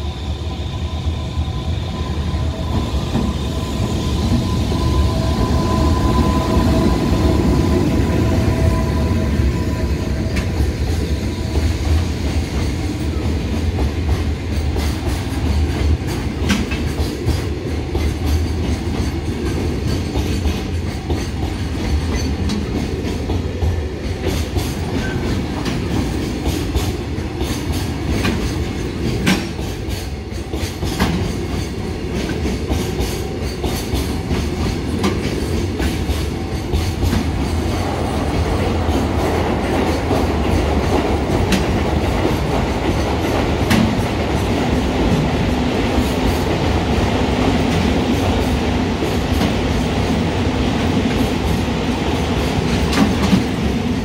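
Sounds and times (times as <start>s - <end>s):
train low rumble: 0.0s - 54.0s
train wheels clacking over rail joints: 10.2s - 54.0s.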